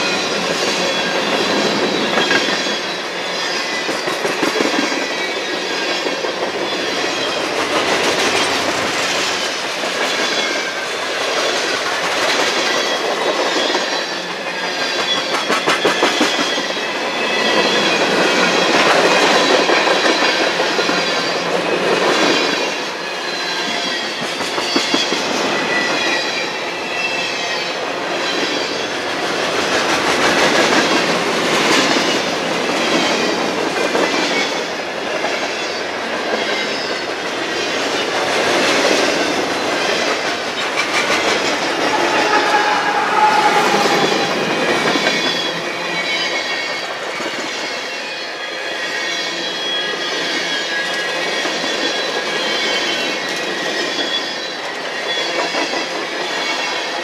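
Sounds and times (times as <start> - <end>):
high squealing wheels: 0.0 - 57.0.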